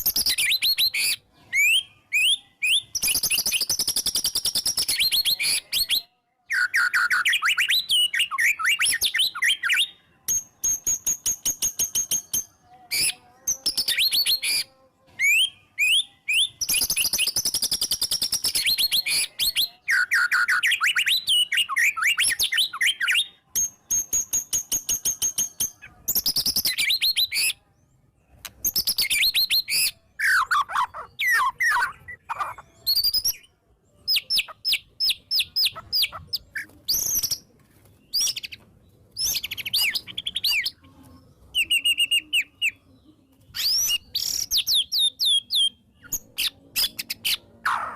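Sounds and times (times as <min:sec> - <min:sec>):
bird singing varied song: 0:00.0 - 0:47.9.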